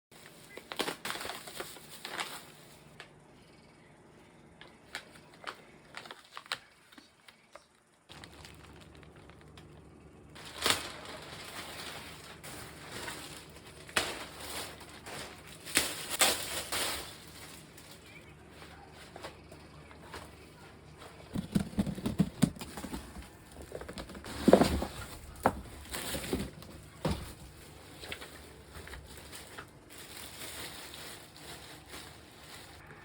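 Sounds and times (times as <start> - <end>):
plastic packaging crinkling: 0.1 - 3.1, 4.6 - 33.0.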